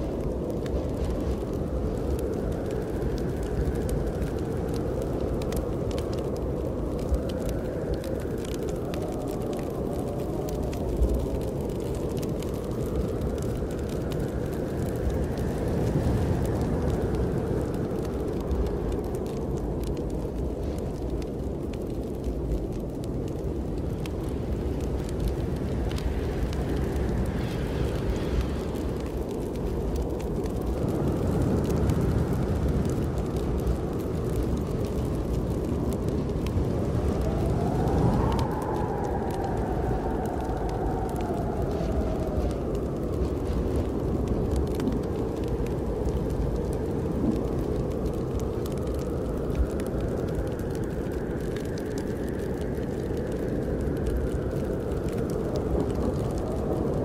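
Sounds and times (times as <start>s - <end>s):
snowstorm wind rushing: 0.0s - 57.0s
wood fire crackling: 0.0s - 57.0s.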